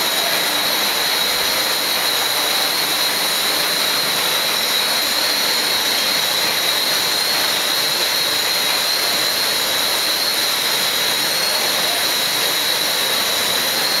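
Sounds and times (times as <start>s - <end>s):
casting machine hissing roar: 0.0s - 14.0s
high whine: 0.0s - 14.0s.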